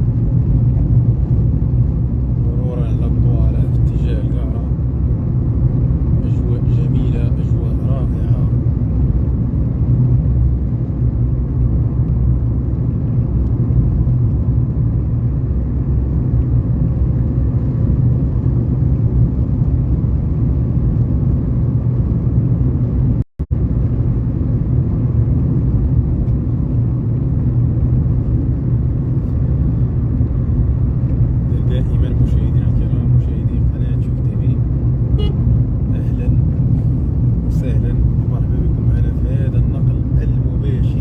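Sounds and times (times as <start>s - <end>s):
car engine rumble: 0.0s - 41.0s
road noise: 0.0s - 41.0s.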